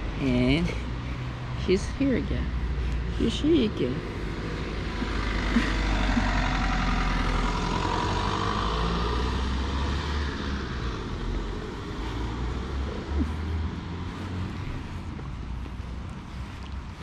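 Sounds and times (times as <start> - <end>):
motor vehicle passing: 0.0 - 17.0.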